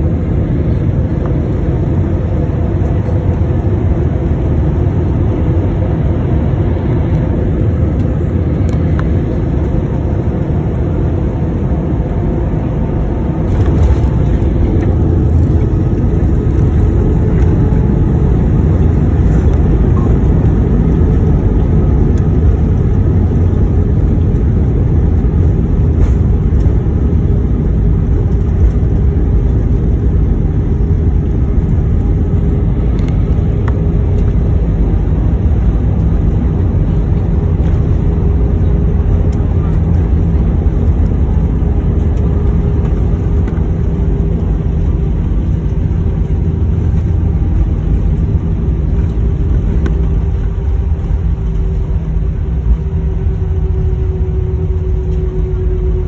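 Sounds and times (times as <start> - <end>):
airliner engine and airflow rumble: 0.0 - 56.0.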